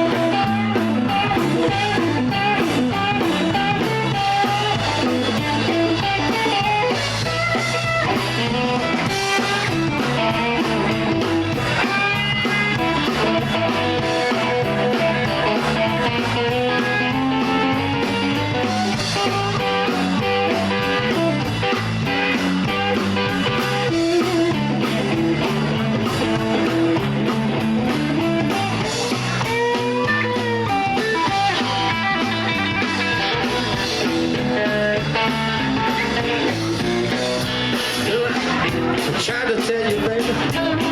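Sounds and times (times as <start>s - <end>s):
blues band playing: 0.0s - 40.9s
electric guitar: 0.0s - 40.9s.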